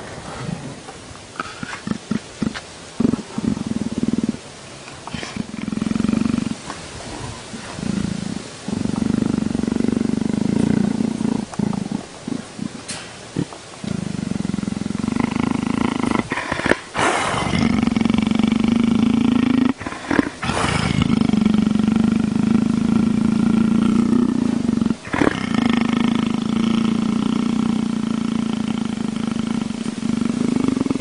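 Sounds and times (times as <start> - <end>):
leopard purring: 0.0 - 31.0.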